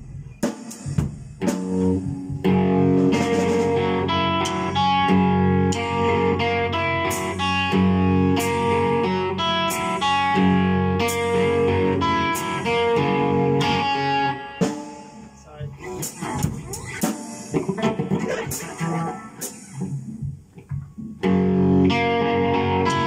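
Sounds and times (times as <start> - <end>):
drums with cymbal hits: 0.0 - 6.2, 7.0 - 21.0
guitar chords ringing: 1.4 - 23.0.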